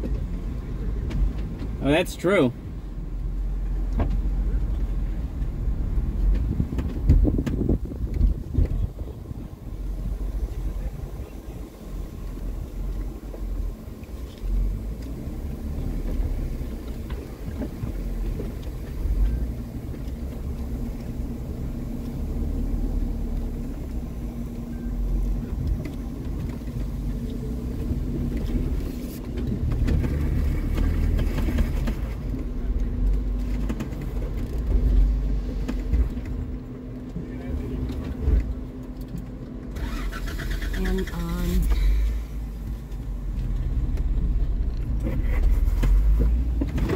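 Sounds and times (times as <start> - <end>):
car engine running off-road: 0.0 - 46.9.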